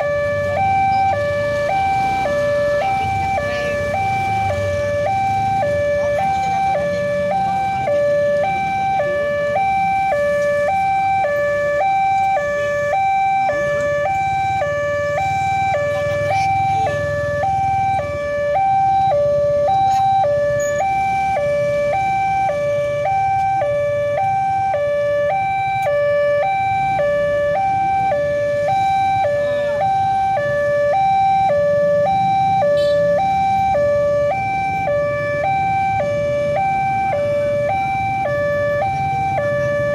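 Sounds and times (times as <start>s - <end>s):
level crossing two-tone alarm: 0.0s - 39.9s
low rumble of traffic: 0.0s - 39.9s.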